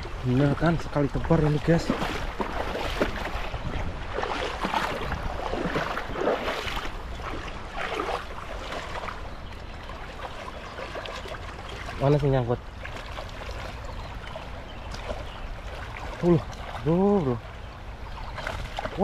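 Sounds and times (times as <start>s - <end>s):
stream rushing: 0.0s - 19.0s
water splashing: 0.0s - 19.0s.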